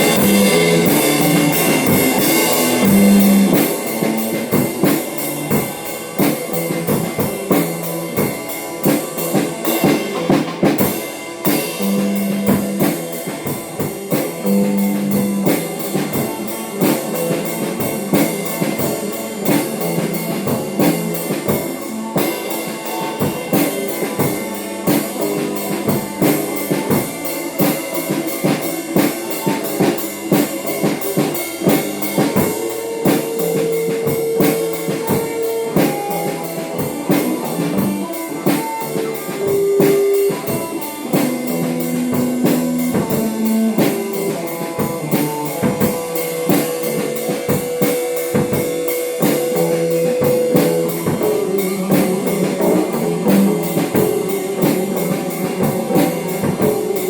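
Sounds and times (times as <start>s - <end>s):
drum kit playing busy beat: 0.0s - 57.0s
guitar playing held notes: 0.0s - 57.0s.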